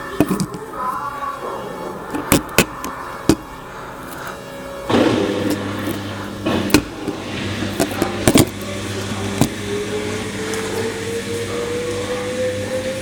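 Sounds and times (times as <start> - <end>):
low steady hum: 0.0 - 13.0
washing machine motor whine: 0.0 - 13.0.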